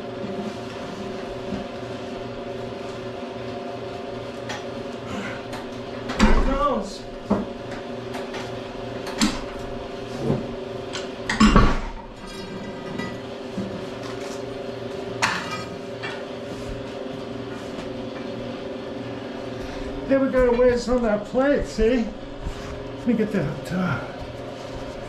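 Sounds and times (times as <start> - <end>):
steady hum: 1.0 - 25.0.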